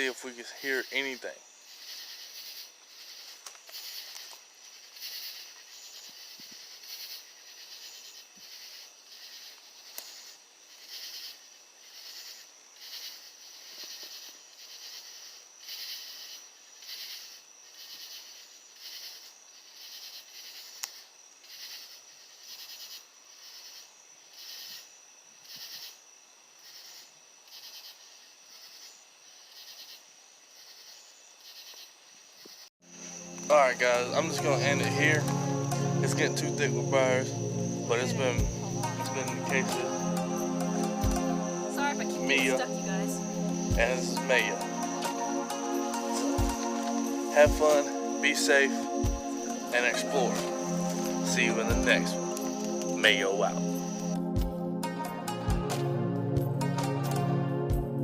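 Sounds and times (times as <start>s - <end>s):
cricket chirping pulses: 0.0s - 58.0s
high insect trill: 0.0s - 58.0s.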